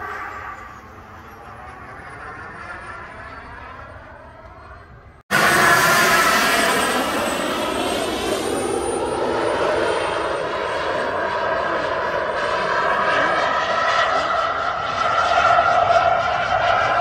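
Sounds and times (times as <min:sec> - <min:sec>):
model jet turbine whine: 0:00.0 - 0:17.0.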